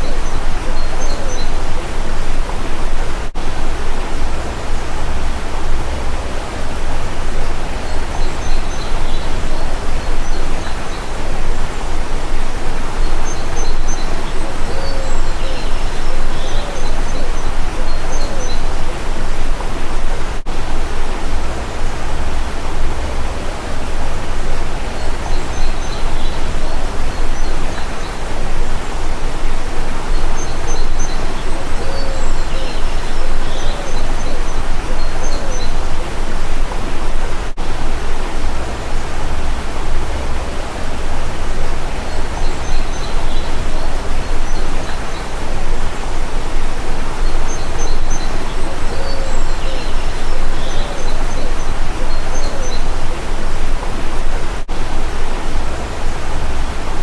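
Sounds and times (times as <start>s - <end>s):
faint bird chirps and calls: 0.0s - 57.0s.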